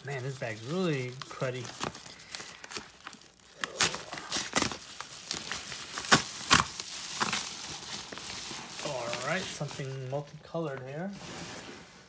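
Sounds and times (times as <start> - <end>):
paper mailer crinkling and tearing: 0.0 - 11.7.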